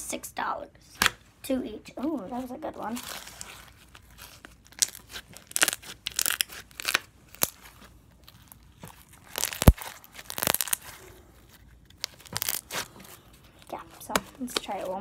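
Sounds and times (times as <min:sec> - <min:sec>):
slime squelching: 0:02.2 - 0:15.0.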